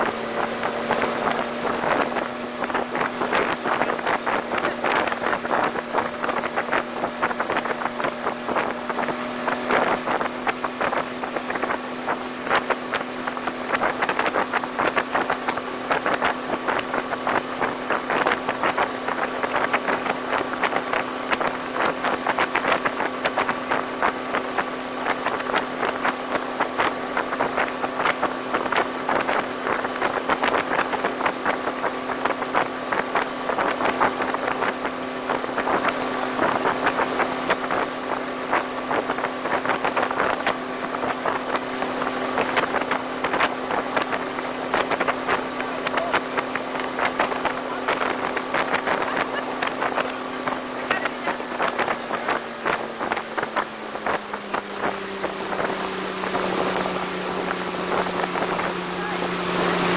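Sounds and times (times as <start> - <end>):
hull slapping on water: 0.0 - 59.9
motorboat engine hum: 0.0 - 59.9
rushing water and spray: 0.0 - 59.9
wind on microphone: 0.0 - 59.9.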